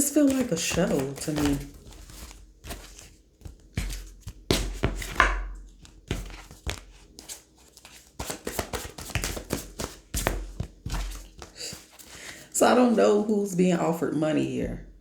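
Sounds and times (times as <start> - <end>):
cards flicking and rustling: 0.0 - 12.5.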